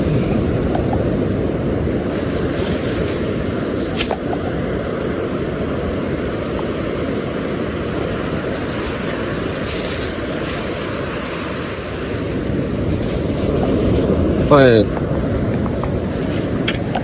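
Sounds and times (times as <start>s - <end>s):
surf washing: 0.0s - 17.0s
wind rumbling on microphone: 0.0s - 17.0s.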